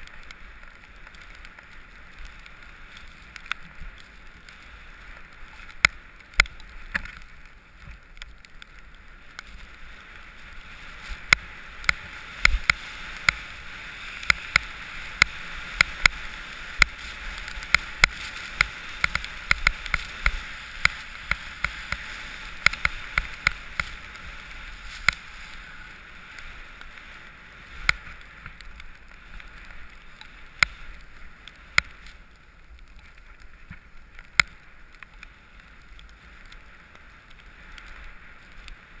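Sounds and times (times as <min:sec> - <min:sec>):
clicks and knocks of ski gear: 0:00.0 - 0:39.0
skis sliding over snow: 0:00.0 - 0:39.0.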